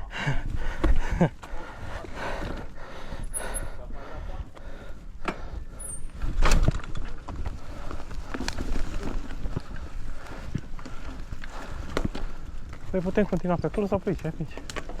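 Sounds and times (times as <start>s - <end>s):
mountain bike rattling on trail: 0.1s - 15.0s.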